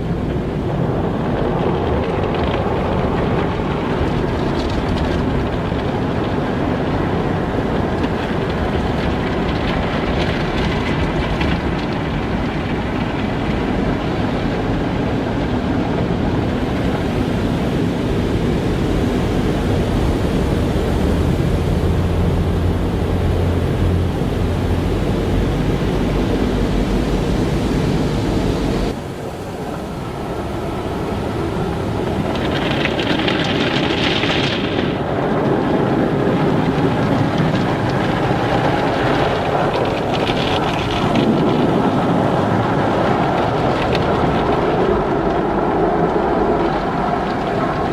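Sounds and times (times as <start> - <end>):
car wash machinery and spray: 0.0 - 47.9
low rumble: 0.0 - 47.9.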